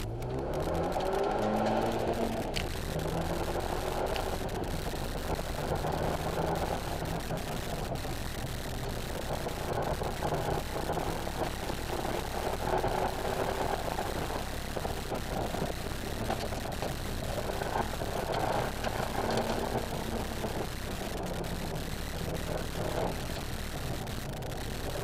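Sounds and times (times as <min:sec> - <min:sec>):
car engine running: 0:00.0 - 0:25.0
road and tyre noise: 0:00.0 - 0:25.0.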